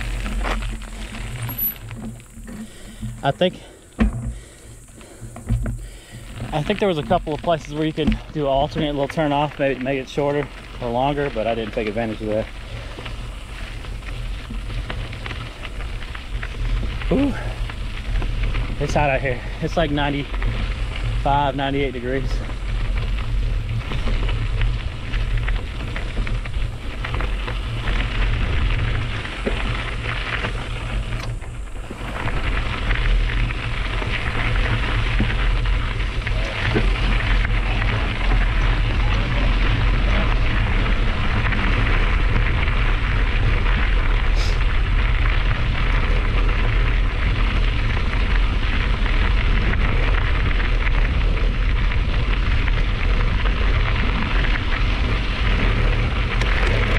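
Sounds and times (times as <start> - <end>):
bike tyres crunching on gravel: 0.0 - 56.9
wind rumble on microphone: 0.0 - 56.9.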